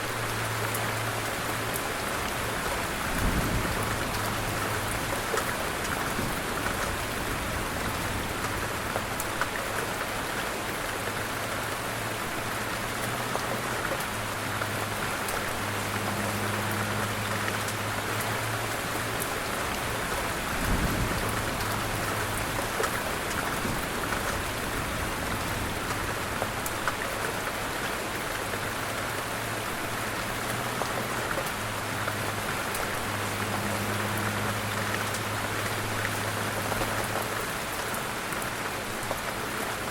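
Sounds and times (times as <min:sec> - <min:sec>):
light rain falling: 0:00.0 - 0:39.9
raindrops ticking: 0:00.0 - 0:39.9.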